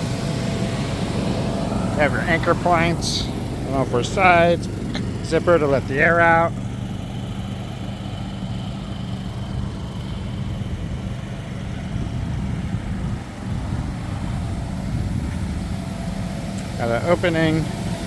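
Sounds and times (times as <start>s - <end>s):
electric blower motor hum: 0.0s - 18.0s.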